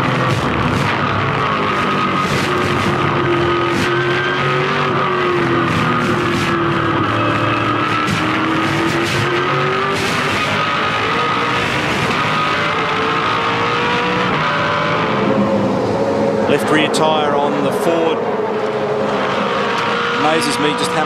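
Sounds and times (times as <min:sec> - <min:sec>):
car engine accelerating hard: 0:00.0 - 0:21.0
tyre and road noise: 0:00.0 - 0:21.0.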